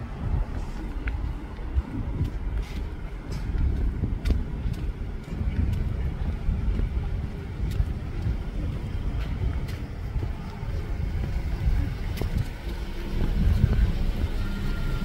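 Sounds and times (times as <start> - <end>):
street ambience rumble: 0.0 - 15.0.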